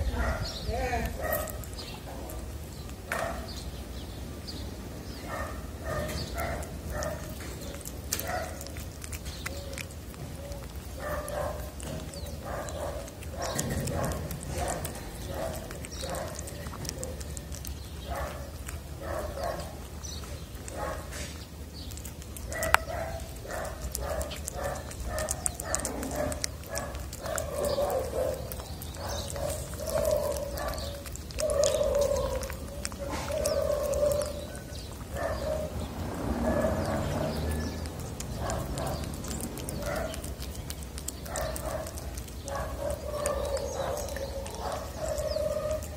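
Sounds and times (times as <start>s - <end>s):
cat chewing wet food: 0.0s - 45.9s.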